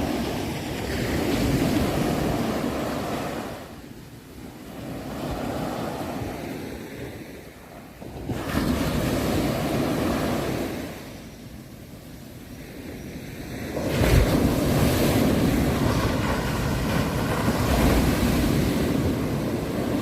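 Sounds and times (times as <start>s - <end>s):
sea waves surging: 0.0s - 11.2s, 11.8s - 20.0s.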